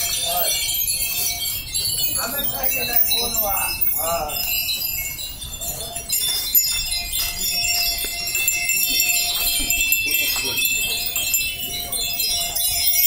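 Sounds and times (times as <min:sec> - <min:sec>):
glass wind bells tinkling: 0:00.0 - 0:13.0.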